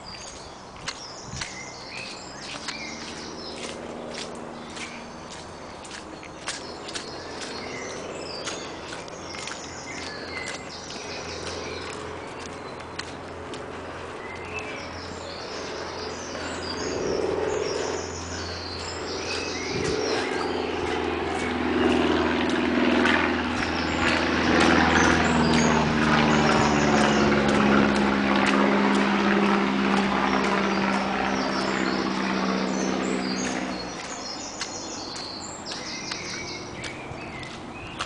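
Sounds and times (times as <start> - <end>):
crunching footsteps: 0.0 - 38.0
engine humming loudly: 0.0 - 38.0
songbirds trilling: 0.0 - 38.0.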